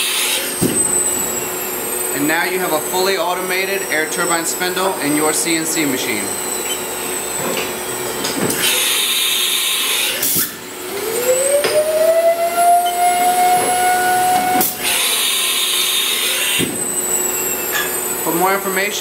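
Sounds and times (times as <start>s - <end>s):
air turbine spindle whine: 0.0s - 19.0s.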